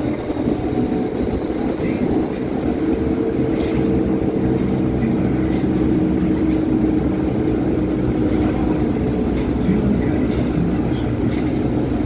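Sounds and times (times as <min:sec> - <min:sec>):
steady low hum: 0:00.0 - 0:12.0
train wheels rumbling on rails: 0:00.0 - 0:12.0.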